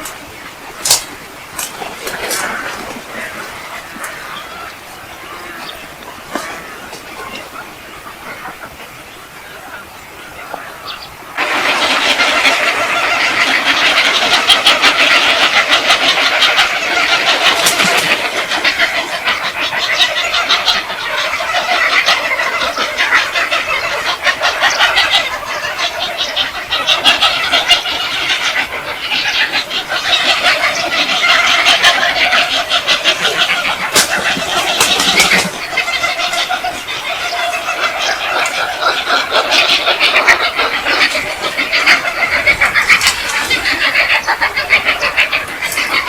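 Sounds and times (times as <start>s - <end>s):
flock of birds squawking: 0.0s - 46.0s.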